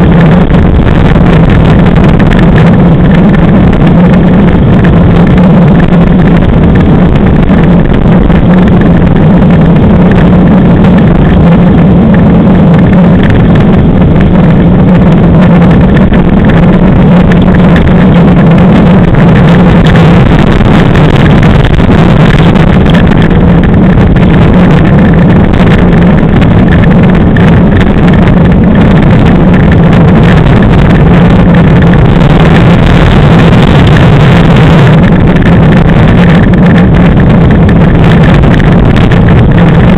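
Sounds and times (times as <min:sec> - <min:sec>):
low steady hum: 0:00.0 - 0:39.9
wind on microphone: 0:00.0 - 0:39.9.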